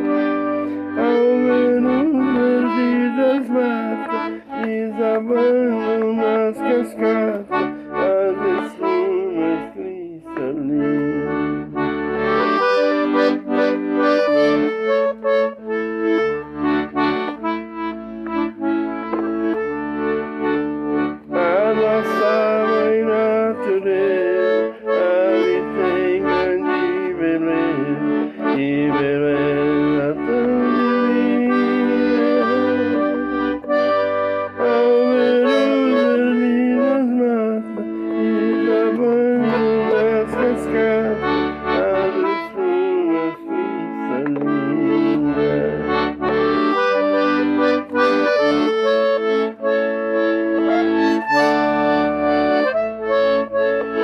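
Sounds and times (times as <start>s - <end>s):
accordion melody: 0.0s - 54.0s
rhythmic bass chords: 0.0s - 54.0s.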